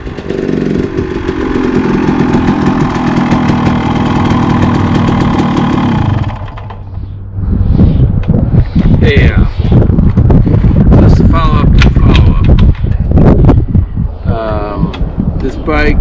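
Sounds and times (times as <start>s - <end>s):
dirt bike engine running: 0.0s - 15.4s
low hum: 0.0s - 16.0s.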